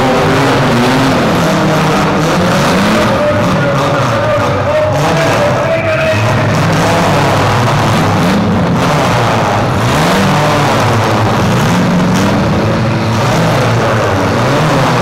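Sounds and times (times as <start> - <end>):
engines revving hard: 0.0 - 15.0.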